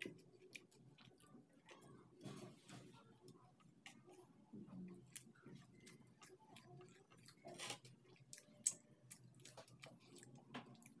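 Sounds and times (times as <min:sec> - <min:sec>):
chewing with wet mouth clicks: 0:00.0 - 0:02.0, 0:03.2 - 0:11.0.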